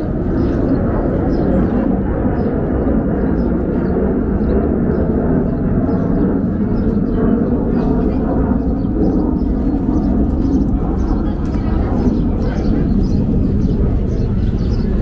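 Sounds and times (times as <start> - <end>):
crowd of voices: 0.0 - 15.0.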